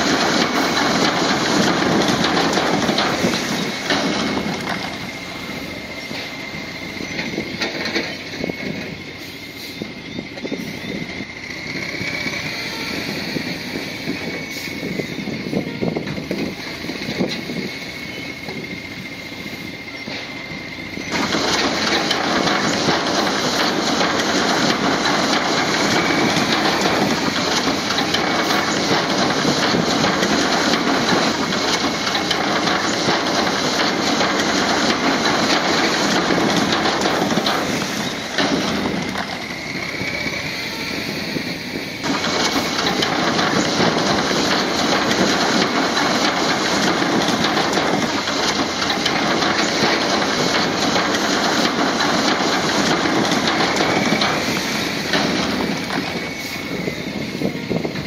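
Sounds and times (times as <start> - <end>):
heavy machinery diesel engine: 0.0 - 58.0
high whine: 0.0 - 58.0.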